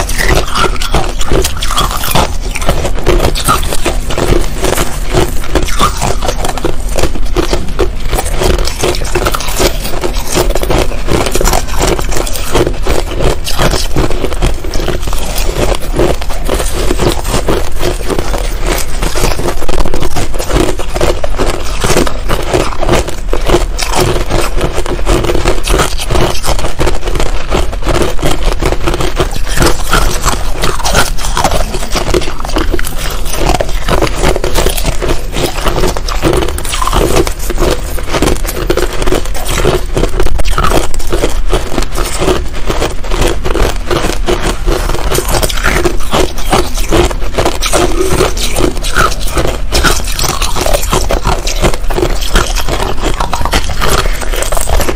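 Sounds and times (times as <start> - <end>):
crushed ice being chewed: 0.0 - 54.9.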